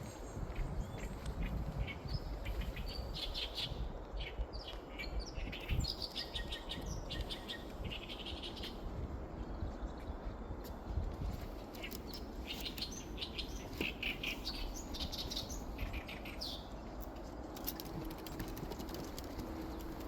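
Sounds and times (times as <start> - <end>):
steady low rumble: 0.0 - 18.3
wild birds chirping: 0.0 - 20.0.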